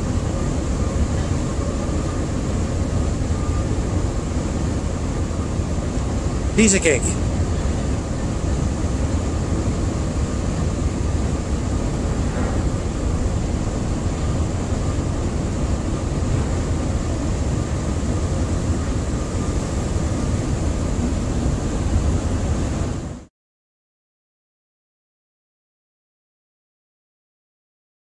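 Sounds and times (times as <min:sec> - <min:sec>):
diesel engines deep drone: 0:00.0 - 0:23.2
faint high whine: 0:00.0 - 0:23.3.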